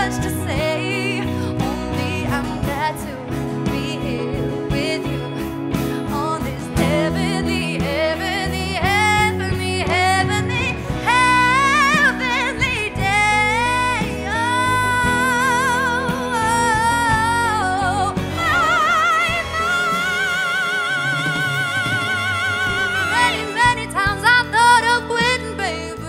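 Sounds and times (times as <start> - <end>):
band with guitars keyboard drums: 0.0 - 26.0
woman singing with vibrato: 0.0 - 26.0.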